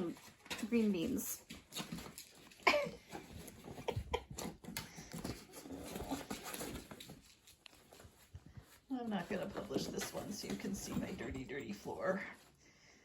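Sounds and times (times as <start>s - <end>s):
cats scrabbling and tapping: 0.0s - 12.5s.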